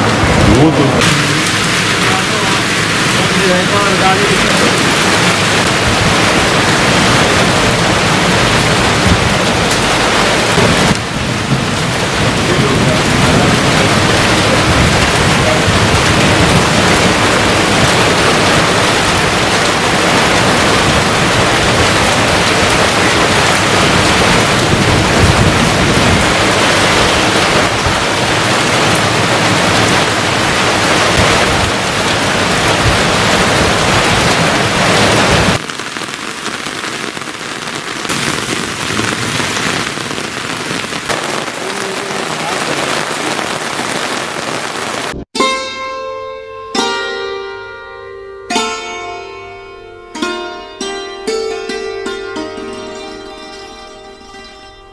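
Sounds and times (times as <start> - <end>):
heavy rain falling: 0.0 - 45.3
rain pelting flooded road: 0.0 - 45.3.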